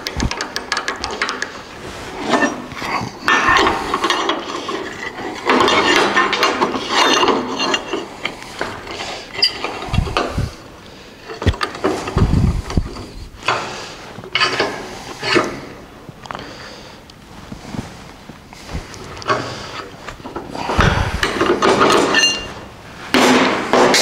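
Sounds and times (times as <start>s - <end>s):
hand scraping on steel frame: 0.0s - 24.0s.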